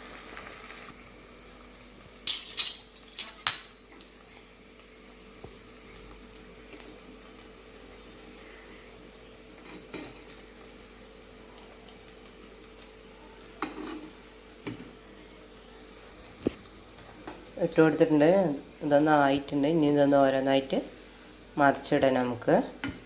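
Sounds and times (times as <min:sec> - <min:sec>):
batter deep-frying in hot oil: 0:00.0 - 0:23.0.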